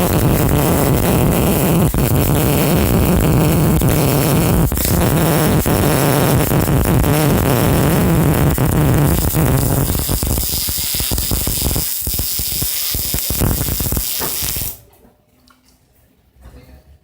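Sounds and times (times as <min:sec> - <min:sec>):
welding arc crackling and hissing: 0:00.0 - 0:14.8.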